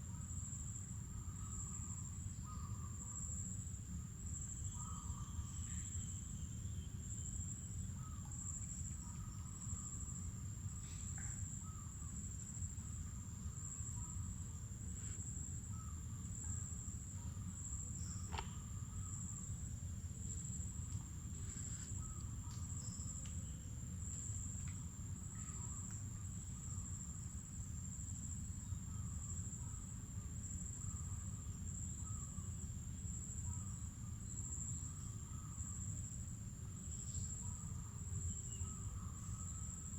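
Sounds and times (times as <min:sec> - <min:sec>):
insects trilling: 0:00.1 - 0:39.9.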